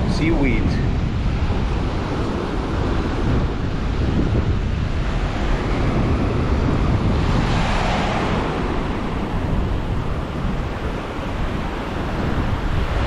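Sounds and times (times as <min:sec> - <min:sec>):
surf breaking on a beach: 0:00.0 - 0:13.0
wind buffeting microphone: 0:00.0 - 0:13.0.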